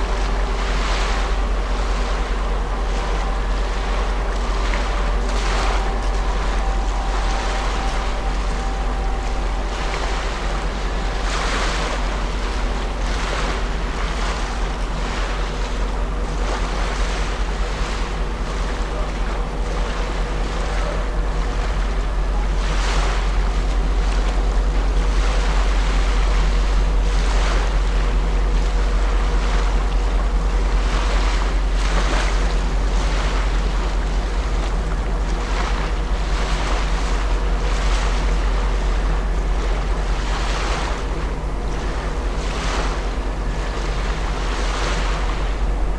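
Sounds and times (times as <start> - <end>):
low hum of large ship: 0.0 - 45.9
small waves washing: 0.0 - 45.9.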